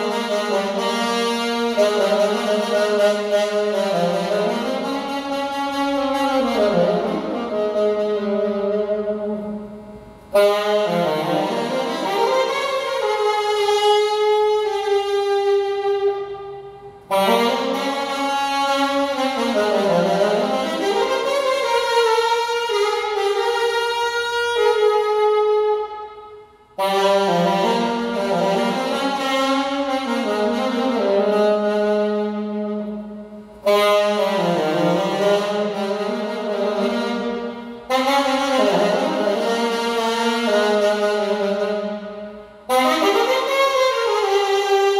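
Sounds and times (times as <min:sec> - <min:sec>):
alto saxophone melody: 0:00.0 - 0:44.9.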